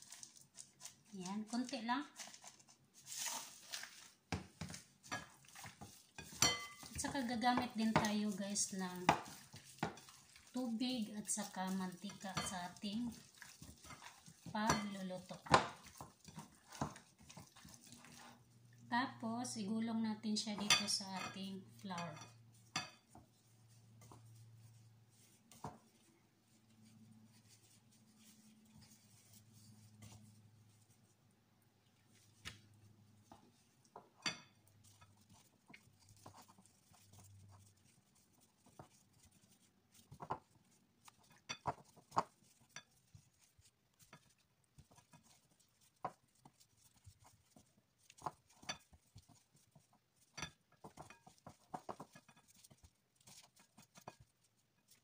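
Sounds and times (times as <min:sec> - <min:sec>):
gloved hands rolling meat in flour: 0:00.0 - 0:55.0.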